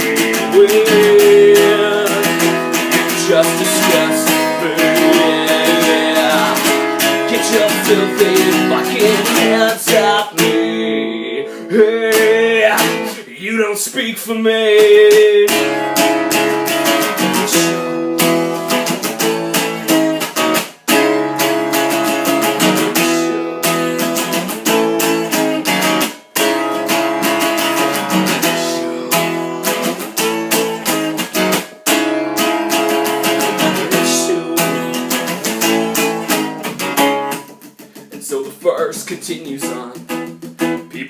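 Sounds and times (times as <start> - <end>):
acoustic guitar strumming chords: 0.0 - 41.0.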